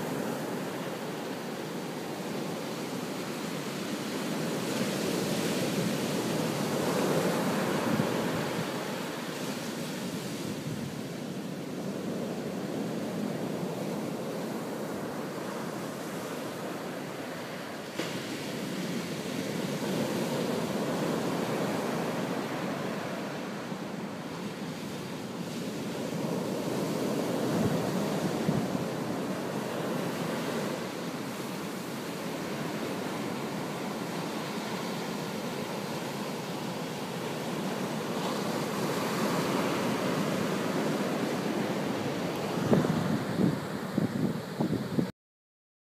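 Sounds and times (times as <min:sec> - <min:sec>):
ocean surf breaking: 0:00.0 - 0:45.1.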